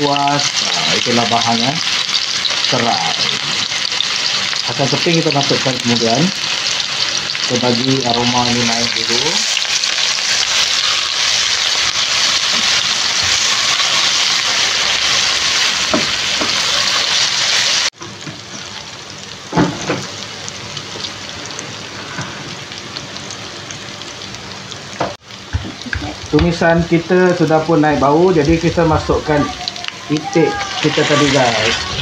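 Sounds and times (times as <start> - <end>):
aromatics sizzling in hot oil: 0.0 - 32.0.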